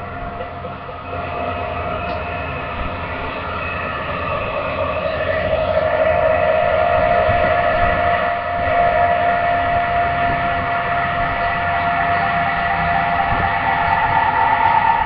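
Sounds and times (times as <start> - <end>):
droning hum of held tones: 0.0 - 15.0
low rumble: 0.0 - 15.0.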